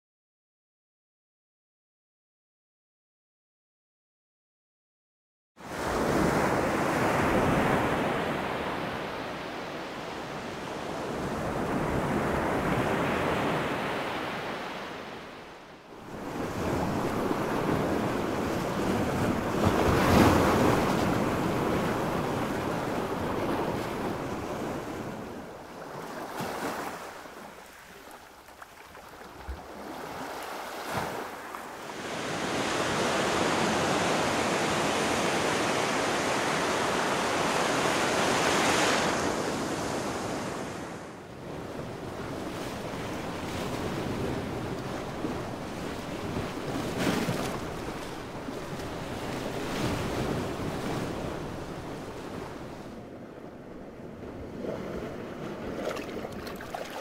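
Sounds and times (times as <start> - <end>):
waves breaking on a beach: 5.6 - 57.0.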